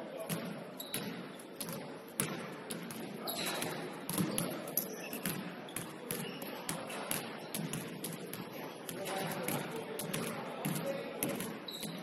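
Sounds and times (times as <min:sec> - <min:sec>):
faint chatter: 0:00.0 - 0:12.0
basketballs bouncing on wooden floor: 0:00.3 - 0:12.0.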